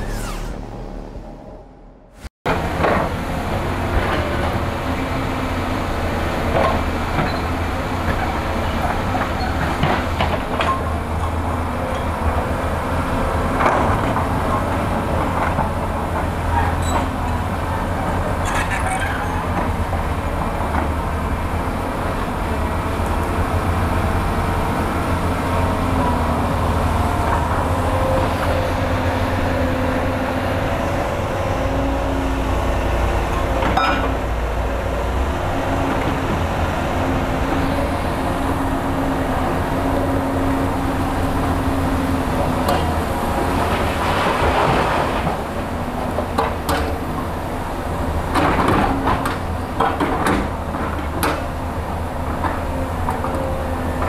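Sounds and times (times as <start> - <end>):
excavator diesel engines droning: 0.0 - 54.0.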